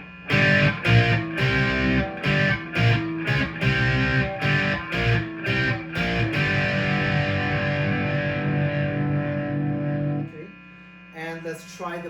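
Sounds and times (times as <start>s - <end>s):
electric guitar chords strummed: 0.0s - 10.4s.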